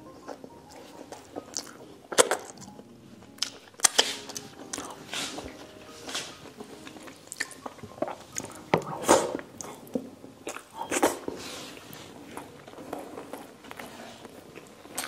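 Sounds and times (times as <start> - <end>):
wet chewing noises: 0.2 - 15.0.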